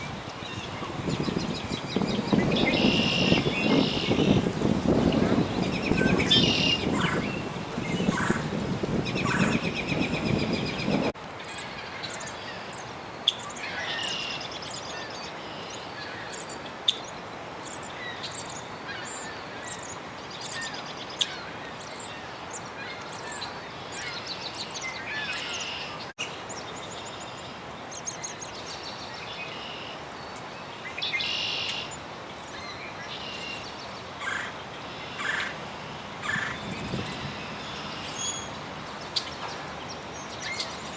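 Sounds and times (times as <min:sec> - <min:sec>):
outdoor background hiss: 0:00.0 - 0:40.9
wild birds chirping: 0:00.0 - 0:40.9.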